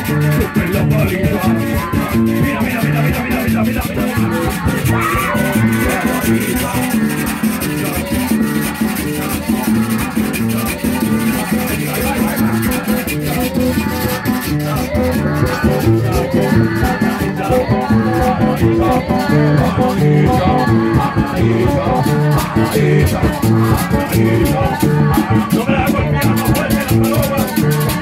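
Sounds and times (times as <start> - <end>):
guitar playing: 0.0 - 28.0
hand drums: 0.0 - 28.0.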